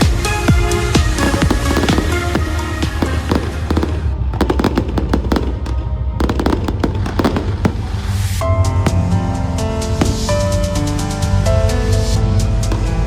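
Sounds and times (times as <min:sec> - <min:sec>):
music with heavy bass beat: 0:00.0 - 0:13.0
fireworks bursting and crackling: 0:00.8 - 0:11.3, 0:12.6 - 0:13.0.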